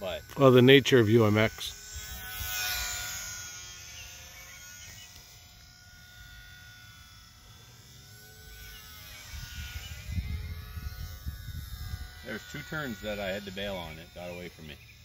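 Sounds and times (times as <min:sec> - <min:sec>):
model plane motor buzzing: 0:00.0 - 0:15.0.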